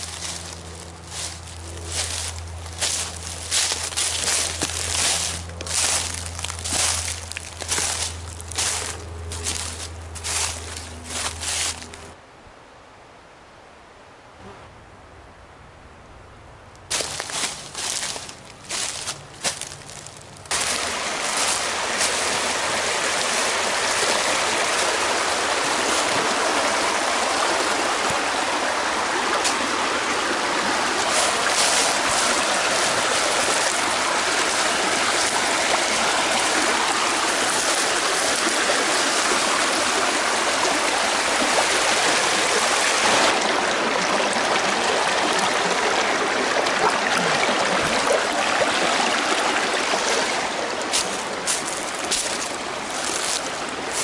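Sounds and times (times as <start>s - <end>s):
stream flowing over stones: 0.0s - 12.2s, 16.9s - 54.0s.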